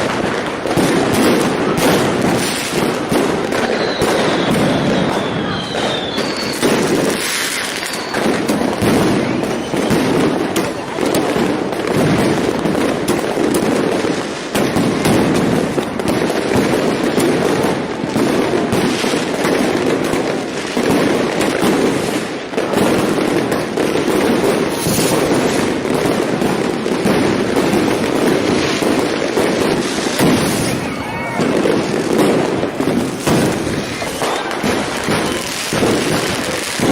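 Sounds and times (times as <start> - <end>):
fireworks bangs and crackles: 0.0 - 36.9.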